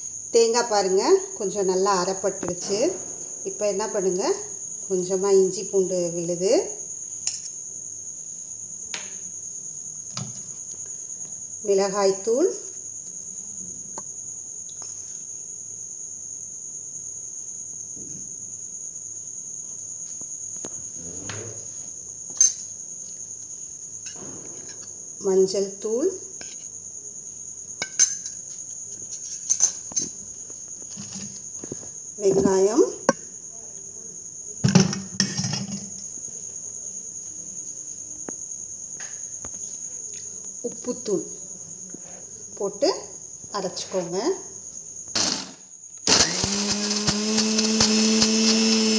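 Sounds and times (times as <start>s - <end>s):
crickets trilling: 0.0s - 48.9s.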